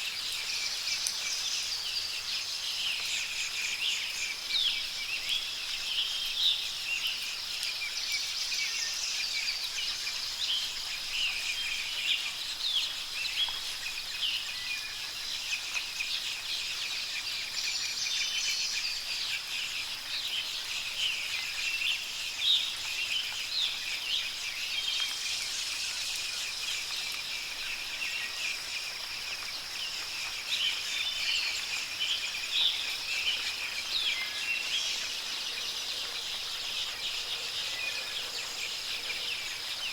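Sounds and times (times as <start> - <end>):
songbirds chirping: 0.1 - 39.9.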